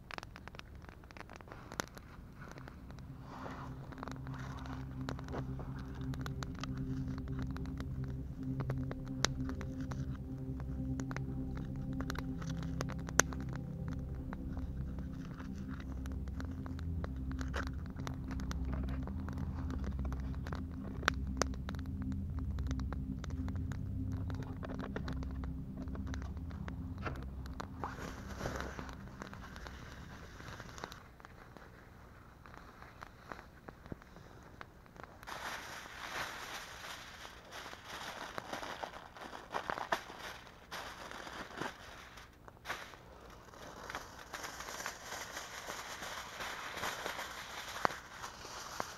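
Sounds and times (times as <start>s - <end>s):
aluminium foil crinkling: 0.0s - 48.9s
campfire crackling and popping: 0.0s - 48.9s
low steady drone: 0.8s - 42.4s, 43.0s - 48.9s.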